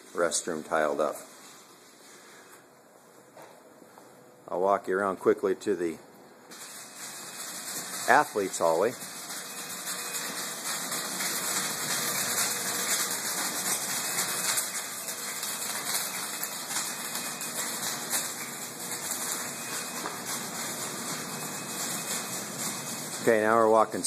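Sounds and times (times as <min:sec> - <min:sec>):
steady hissing noise: 0:00.0 - 0:24.0.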